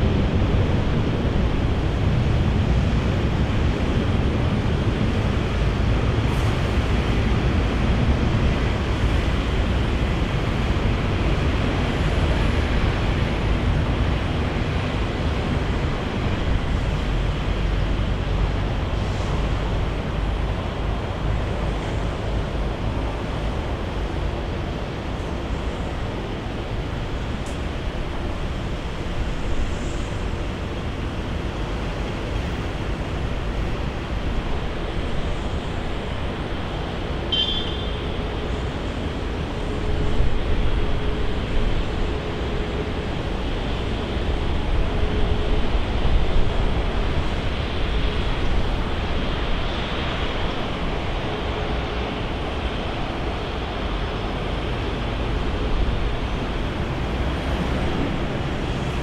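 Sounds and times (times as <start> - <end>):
jet airliner engines roaring: 0.0 - 59.0.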